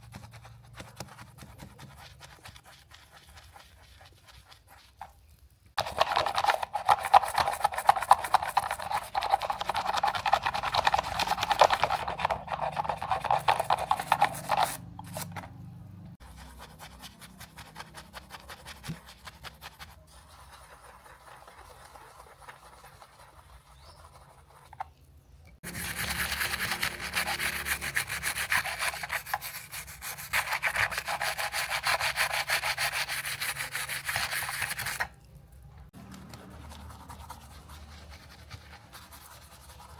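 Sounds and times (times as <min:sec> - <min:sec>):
scrubbing on a model car: 0:00.0 - 0:15.5, 0:16.2 - 0:25.0, 0:25.6 - 0:35.2, 0:36.0 - 0:39.9.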